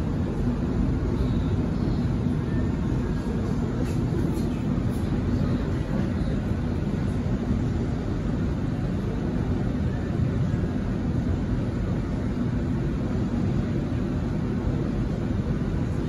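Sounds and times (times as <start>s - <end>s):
faint hum: 0.0s - 16.0s
train wheels rumbling on rail: 0.0s - 16.0s.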